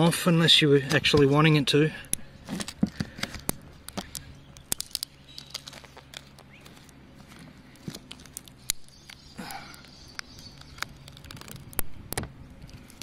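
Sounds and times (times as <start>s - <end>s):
tape peeling with sticky crackles: 2.1s - 13.0s.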